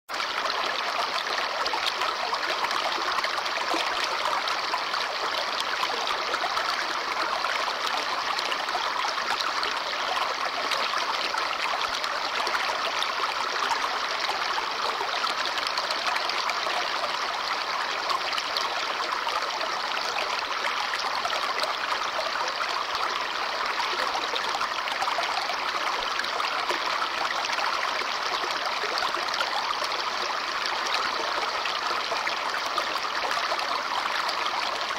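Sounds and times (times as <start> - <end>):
stream running over stones: 0.1 - 34.9.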